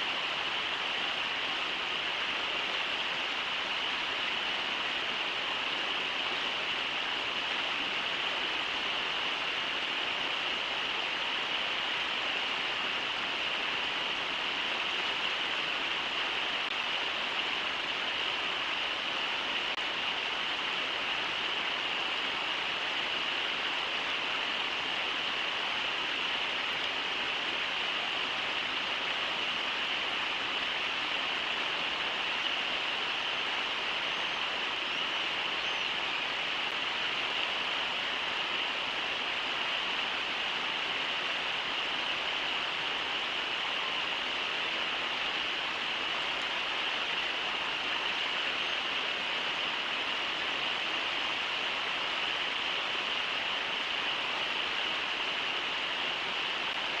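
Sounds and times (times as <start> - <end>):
river rushing over riffles: 0.0 - 57.0.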